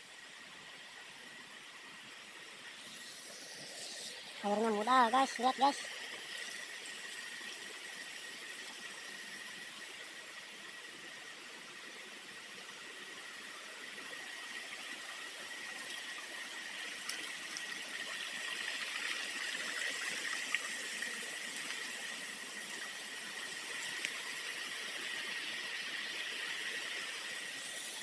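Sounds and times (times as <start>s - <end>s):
forest ambience hiss: 0.0s - 28.0s.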